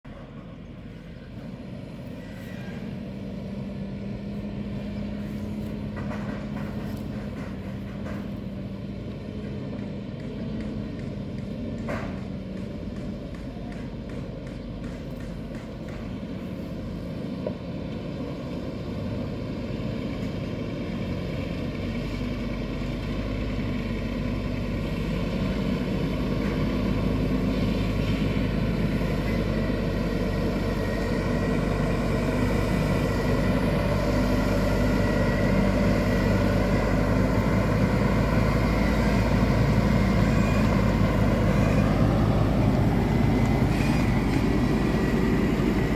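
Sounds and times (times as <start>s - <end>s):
truck diesel engine drone: 0.0s - 45.9s.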